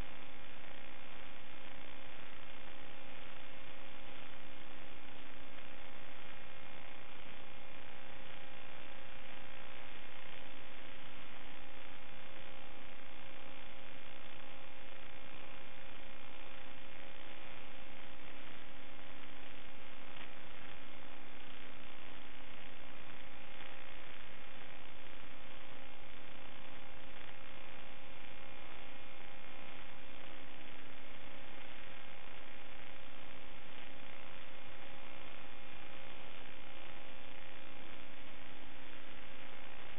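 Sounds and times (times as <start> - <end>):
electrical hum and hiss: 0.0 - 39.9.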